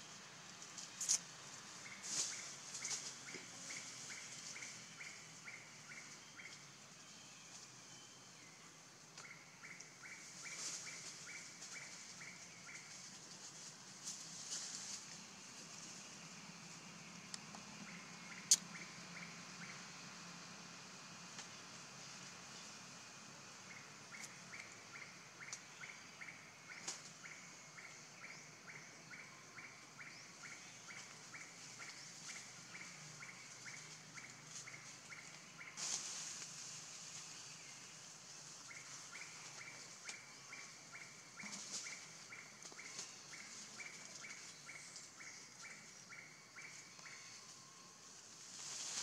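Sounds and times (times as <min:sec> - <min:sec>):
steady high hiss: 0:00.0 - 0:49.0.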